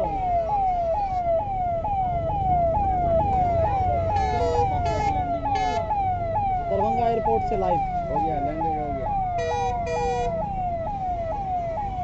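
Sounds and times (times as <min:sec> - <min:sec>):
fire engine siren: 0:00.0 - 0:12.0.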